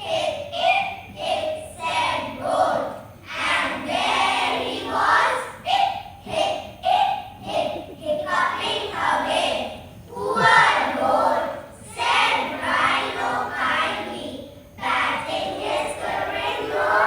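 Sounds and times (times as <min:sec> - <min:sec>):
children reciting in unison: 0:00.0 - 0:17.0.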